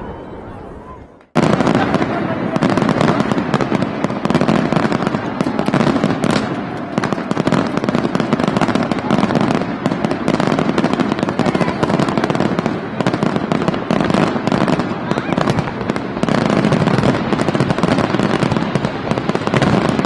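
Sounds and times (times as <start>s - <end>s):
fireworks bangs and crackles: 1.2s - 20.0s.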